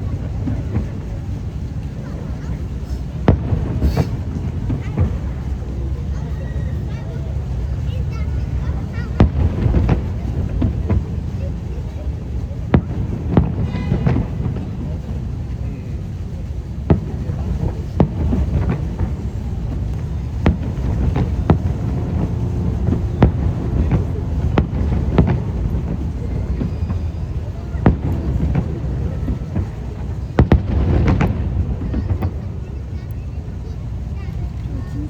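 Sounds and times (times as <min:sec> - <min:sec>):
fireworks bursting in sharp bangs: 0:00.0 - 0:34.6
low background noise: 0:00.0 - 0:35.0.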